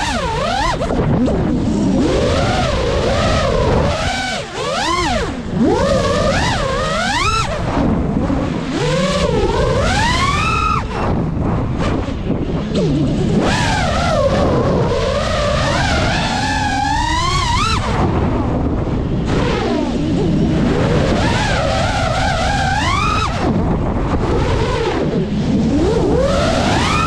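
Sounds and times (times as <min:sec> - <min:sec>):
drone motors whining: 0:00.0 - 0:27.0
propeller and wind rush: 0:00.0 - 0:27.0.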